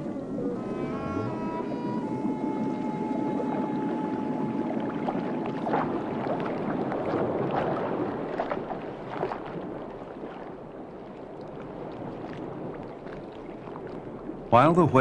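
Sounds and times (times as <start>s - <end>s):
water sloshing and splashing: 0.0s - 14.5s.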